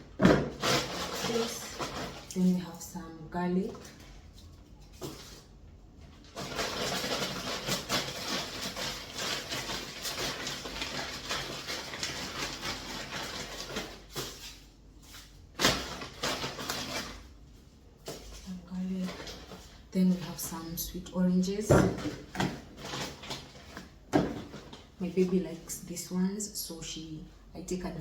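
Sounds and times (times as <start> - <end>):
packaging rustling and crinkling: 0.2 - 2.8, 3.6 - 20.6, 21.8 - 25.4.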